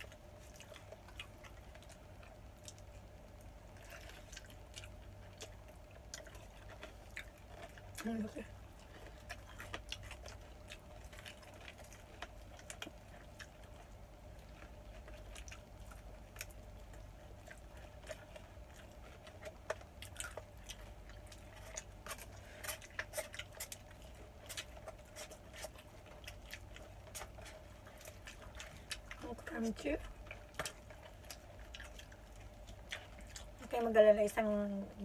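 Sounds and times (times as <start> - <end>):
person chewing food: 0.0 - 33.9
faint steady hum: 0.0 - 35.0.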